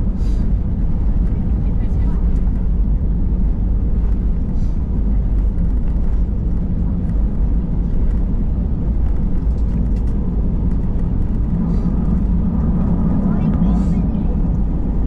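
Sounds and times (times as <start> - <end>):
jet airliner rumble in cabin: 0.0 - 15.0.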